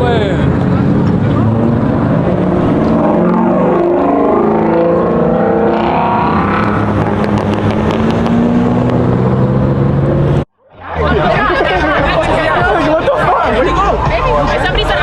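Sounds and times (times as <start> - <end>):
loud vehicle engine drone: 0.0 - 15.0.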